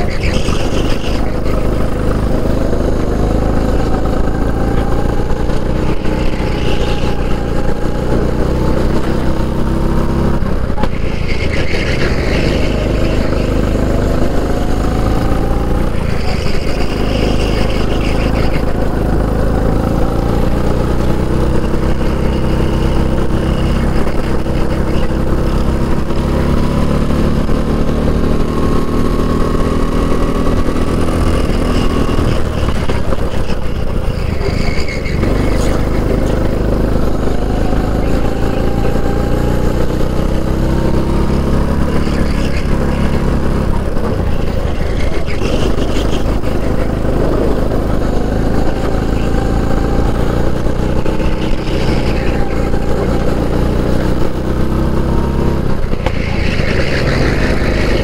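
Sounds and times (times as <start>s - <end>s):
kart engine at full throttle: 0.0s - 58.0s
wind noise: 0.0s - 58.0s.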